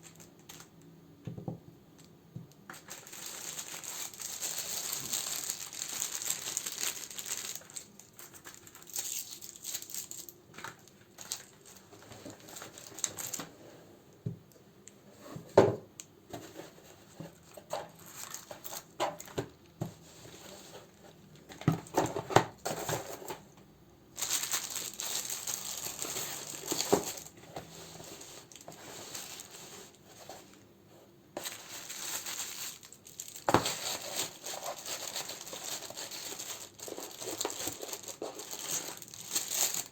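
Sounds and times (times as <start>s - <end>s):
plastic wrappers and paper crinkling: 0.0s - 0.9s, 1.9s - 13.6s, 16.3s - 39.9s.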